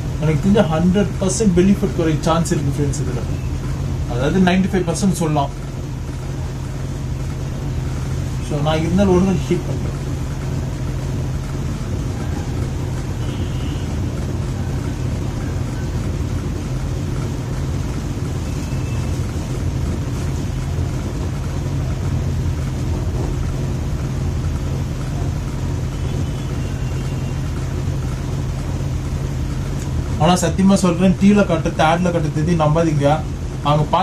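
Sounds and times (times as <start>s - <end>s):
electric fan humming and rushing air: 0.0s - 34.0s.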